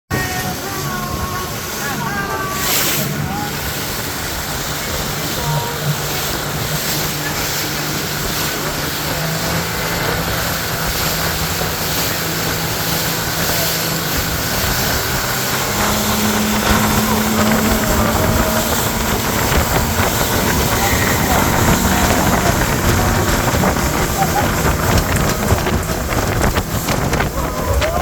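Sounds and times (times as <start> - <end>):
speedboat engine running: 0.1 - 28.0
water rushing: 0.1 - 28.0
wind: 0.1 - 28.0.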